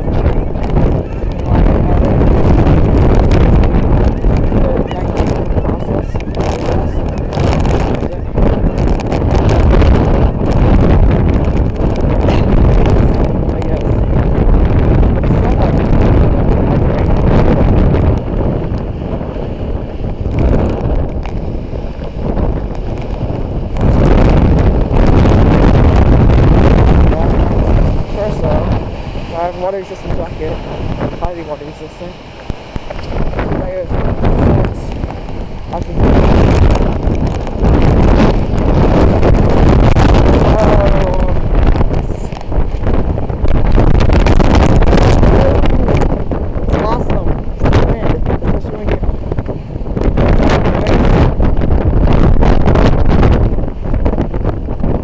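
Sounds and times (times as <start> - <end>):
wind gusts buffeting microphone: 0.0 - 55.0.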